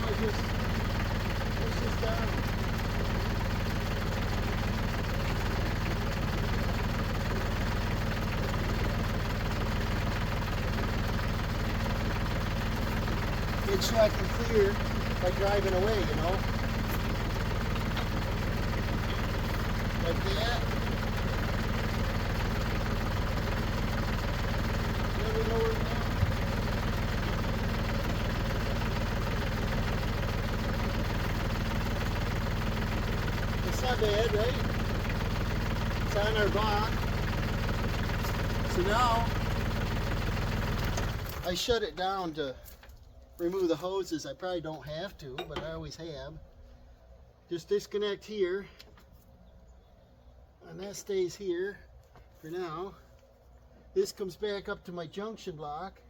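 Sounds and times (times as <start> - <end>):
tractor diesel engine running: 0.0 - 48.1.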